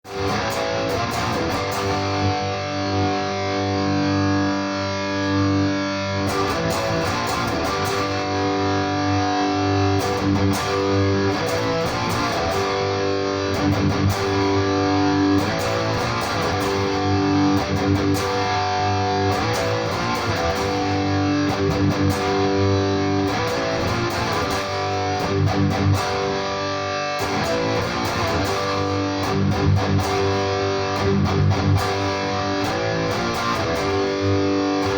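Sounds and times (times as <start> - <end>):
distorted electric guitar riffs: 0.0 - 34.9.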